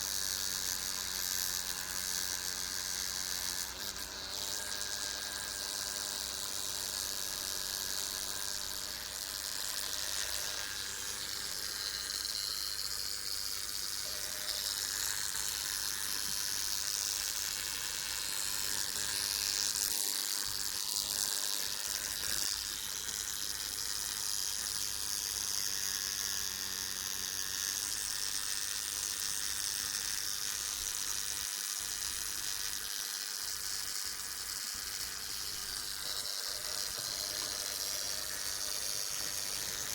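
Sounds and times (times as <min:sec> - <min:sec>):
bug buzzing its wings: 0:00.0 - 0:27.5, 0:31.8 - 0:39.9.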